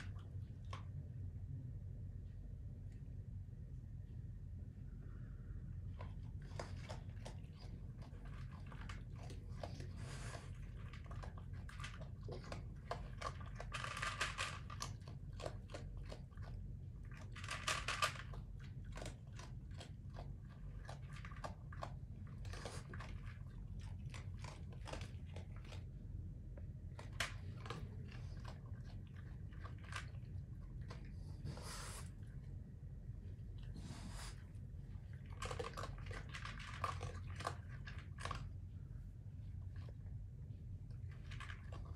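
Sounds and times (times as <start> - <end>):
raccoons chewing and crunching food: 0.0 - 3.5, 4.9 - 41.9.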